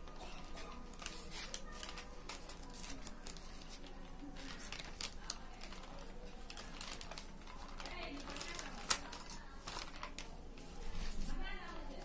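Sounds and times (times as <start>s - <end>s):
paper pages rustling and flicking: 0.0s - 12.0s.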